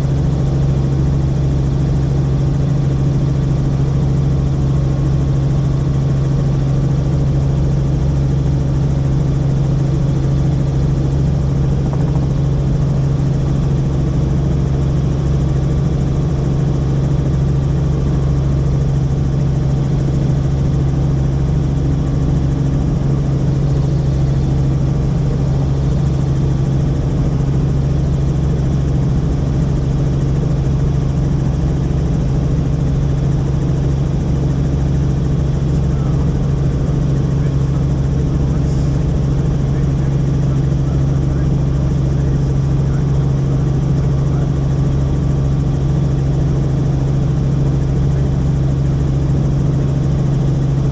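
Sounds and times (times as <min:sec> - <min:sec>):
helicopter engine and rotors drone: 0:00.0 - 0:50.9.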